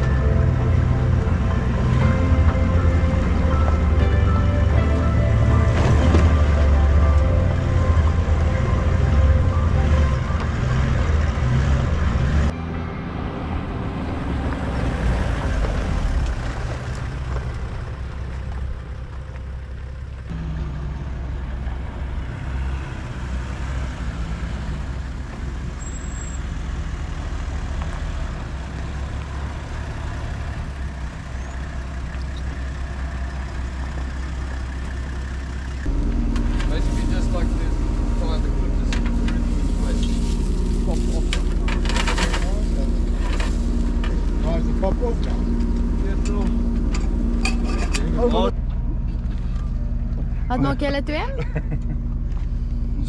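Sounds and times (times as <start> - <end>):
vehicle engine drone: 0.0 - 53.0.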